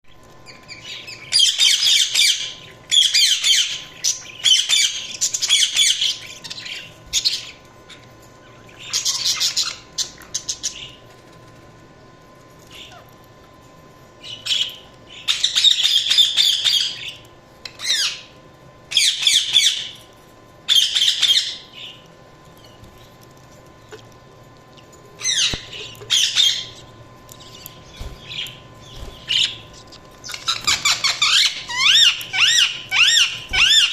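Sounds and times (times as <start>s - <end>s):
budgies chirping and chattering: 0.4s - 11.2s, 12.6s - 13.2s, 14.2s - 20.1s, 20.7s - 23.2s, 24.8s - 33.9s.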